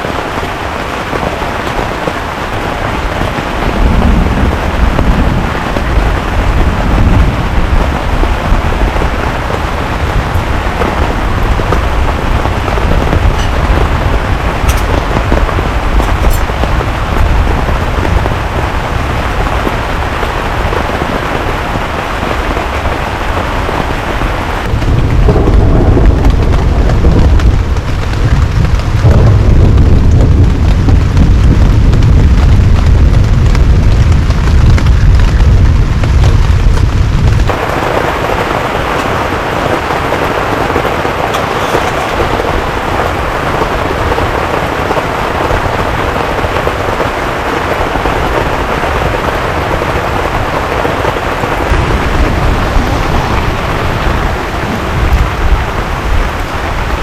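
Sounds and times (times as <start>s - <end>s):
heavy rain falling: 0.0s - 57.0s
deep rumble: 2.8s - 45.9s, 47.9s - 57.0s.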